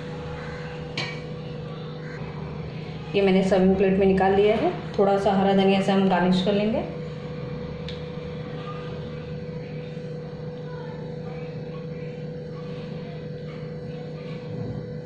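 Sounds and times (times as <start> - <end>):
steady motor hum: 0.0 - 15.0.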